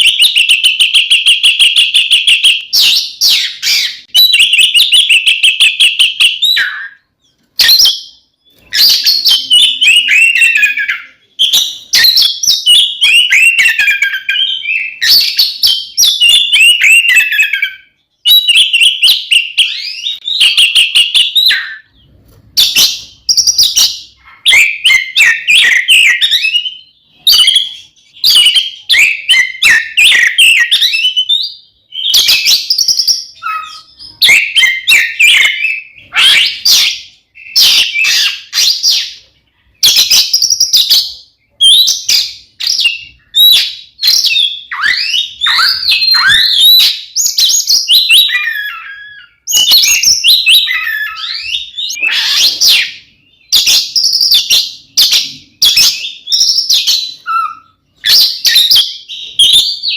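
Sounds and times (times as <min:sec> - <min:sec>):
magpie-robin singing: 0:00.0 - 0:59.9.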